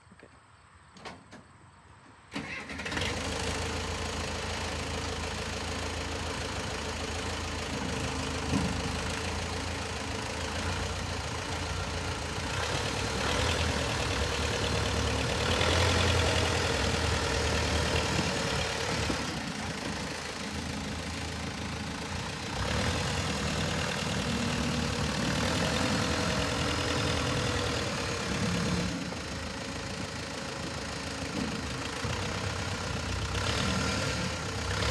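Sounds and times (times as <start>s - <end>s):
backhoe engine running: 2.4s - 34.9s.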